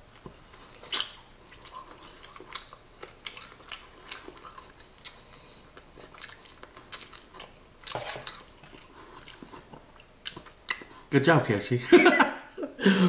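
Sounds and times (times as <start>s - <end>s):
wet chewing clicks and smacks: 0.1s - 11.0s.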